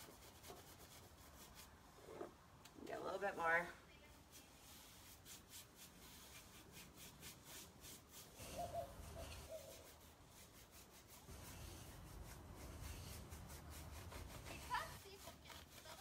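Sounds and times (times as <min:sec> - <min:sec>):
paintbrush scrubbing on wood: 0:00.0 - 0:02.2, 0:04.0 - 0:16.0.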